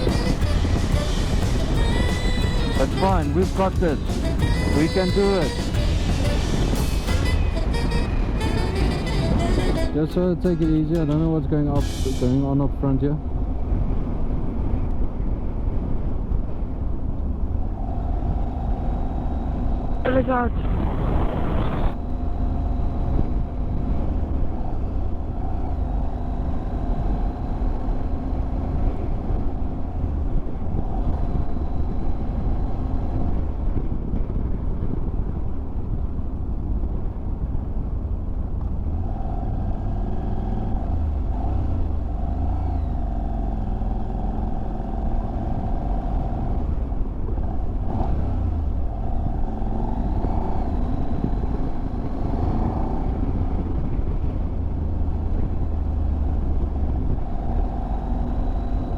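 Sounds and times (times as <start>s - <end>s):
motorcycle engine running: 0.0s - 12.6s, 17.6s - 58.9s
wind rumble on microphone: 0.0s - 58.9s.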